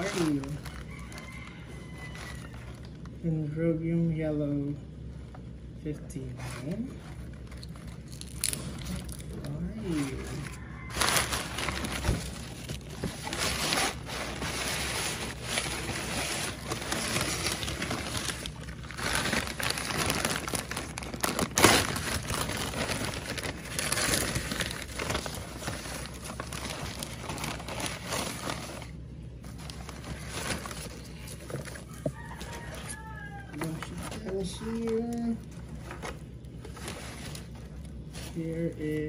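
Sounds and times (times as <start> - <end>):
newspaper crinkling and rustling: 0.0 - 3.1, 6.2 - 39.0.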